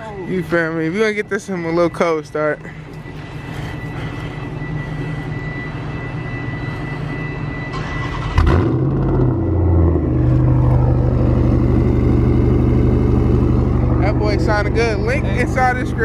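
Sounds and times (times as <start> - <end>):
car engine starting and idling: 2.6 - 16.0.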